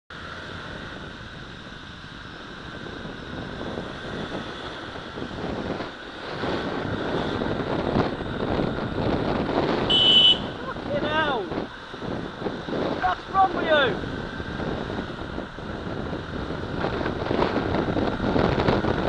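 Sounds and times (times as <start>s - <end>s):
motorcycle engine: 0.1s - 19.0s
road noise: 0.1s - 19.0s
wind buffeting microphone: 0.3s - 19.0s.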